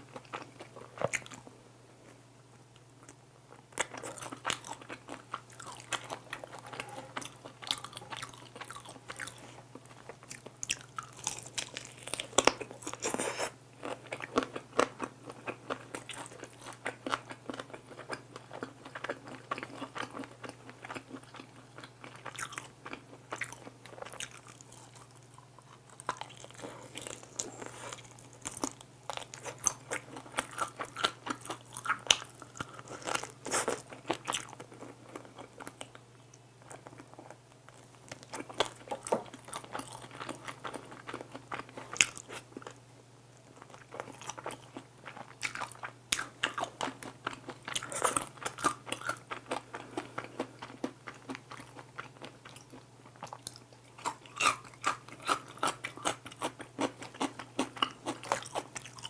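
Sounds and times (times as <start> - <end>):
crunching and chewing food: 0.0 - 59.0
faint low hum: 0.0 - 59.0.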